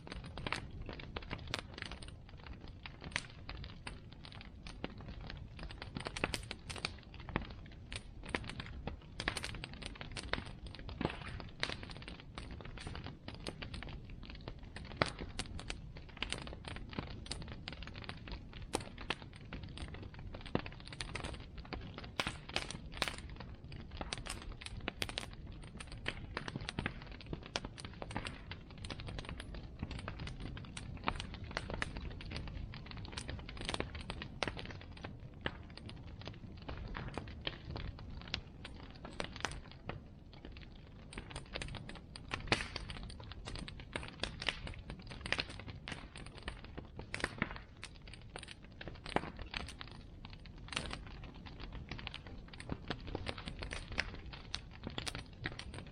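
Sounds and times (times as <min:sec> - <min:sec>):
bonfire crackling and popping: 0:00.0 - 0:55.9.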